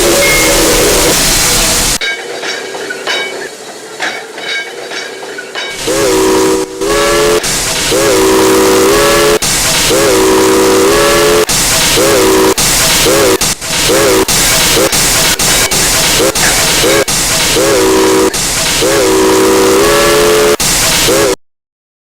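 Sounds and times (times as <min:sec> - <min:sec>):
steam locomotive chime whistle: 0:00.0 - 0:02.3, 0:05.6 - 0:21.4
loud steam hiss: 0:00.0 - 0:21.4.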